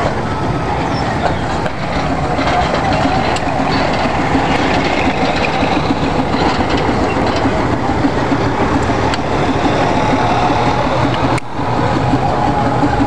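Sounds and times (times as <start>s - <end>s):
steam traction engine running: 0.0s - 13.0s.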